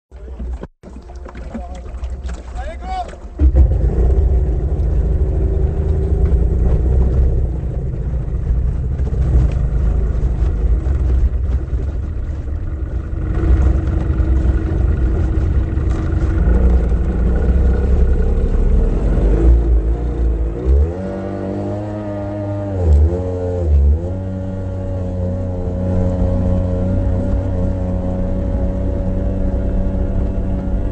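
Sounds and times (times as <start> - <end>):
outboard engine running hard: 0.2 - 30.9
wind and water rushing: 0.2 - 30.9.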